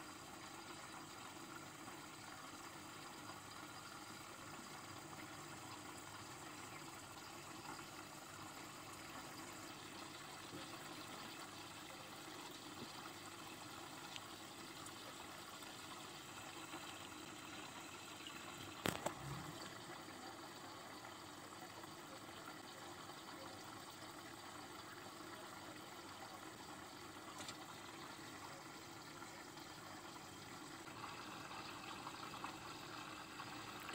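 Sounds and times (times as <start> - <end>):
aquarium water trickle and hum: 0.0 - 33.9.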